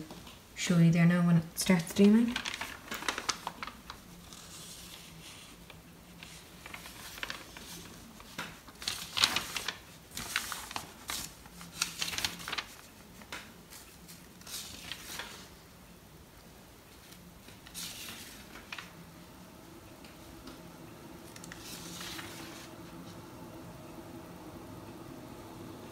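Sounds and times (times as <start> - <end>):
faint pump hum: 0.0 - 25.9.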